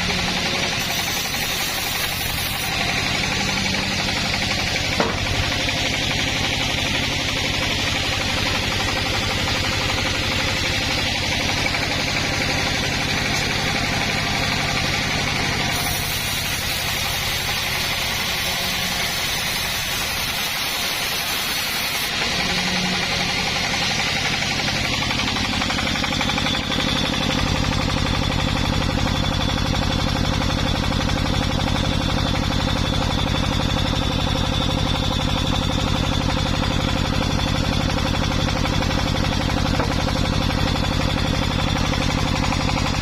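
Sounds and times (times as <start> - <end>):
small petrol engine idling: 0.0 - 43.0.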